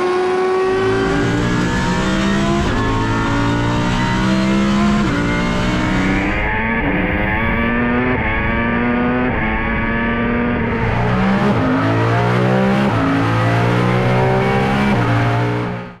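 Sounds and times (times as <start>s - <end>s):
racing car engine accelerating: 0.0s - 16.0s.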